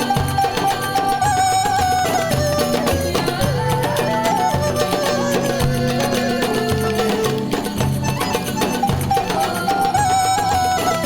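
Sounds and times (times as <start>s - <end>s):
folk-style instrumental music: 0.0s - 11.0s.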